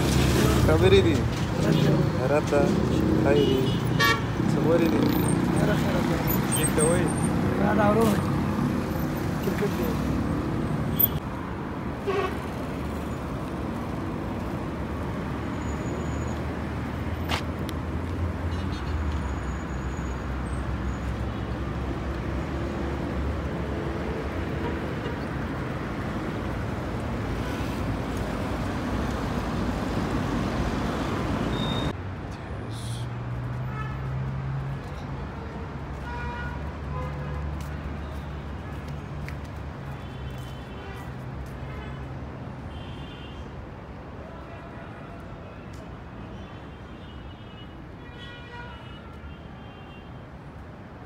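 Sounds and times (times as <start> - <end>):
city street traffic: 0.0 - 51.0.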